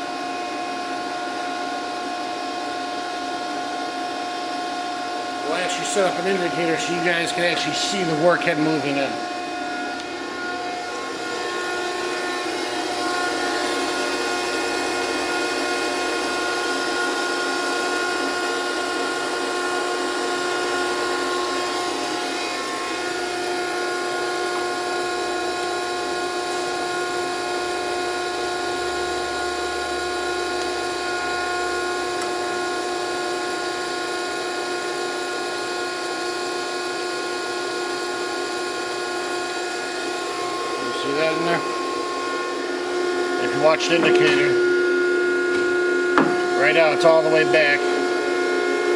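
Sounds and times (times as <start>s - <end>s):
grinder machine whine: 0.0s - 48.9s.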